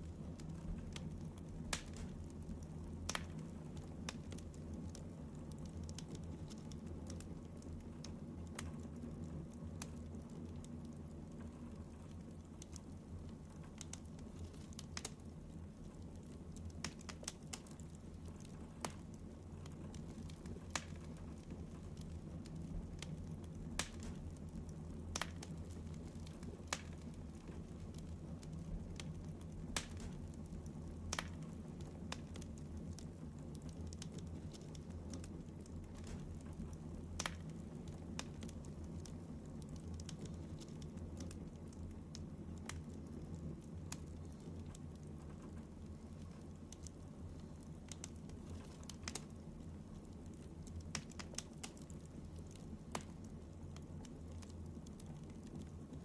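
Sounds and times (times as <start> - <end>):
faint clicks and ticks: 0.0 - 56.0.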